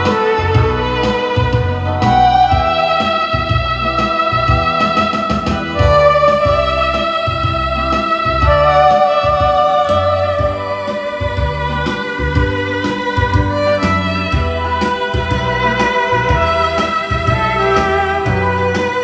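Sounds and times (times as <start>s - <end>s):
steady bass line: 0.0s - 19.0s
sustained keyboard melody: 0.0s - 19.0s.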